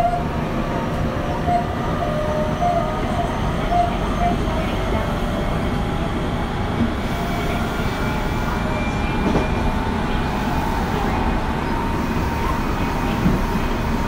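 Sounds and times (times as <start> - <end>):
rumble of train wheels on track: 0.0 - 14.0.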